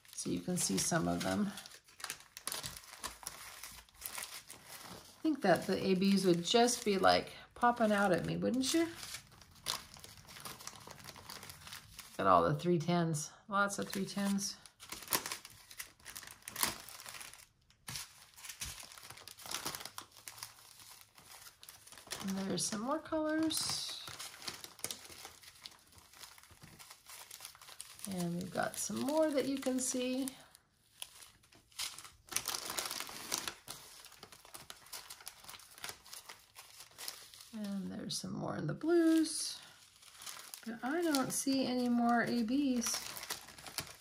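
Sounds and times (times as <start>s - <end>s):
plastic bags crinkling: 0.0s - 12.2s, 13.8s - 37.8s, 38.9s - 44.0s.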